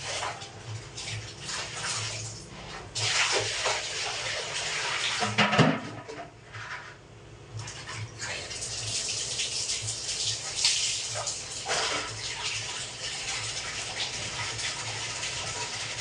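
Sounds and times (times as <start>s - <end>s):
water pouring and splashing: 0.0s - 5.5s, 7.6s - 16.0s.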